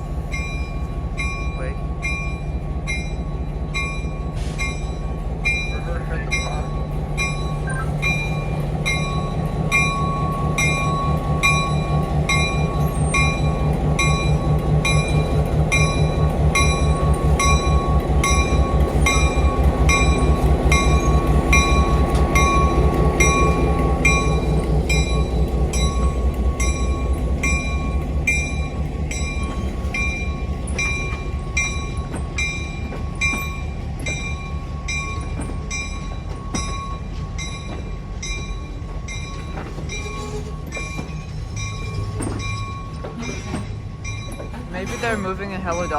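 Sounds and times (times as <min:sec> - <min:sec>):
train rumbling past: 0:00.0 - 0:45.9
locomotive bell ringing: 0:00.3 - 0:45.9.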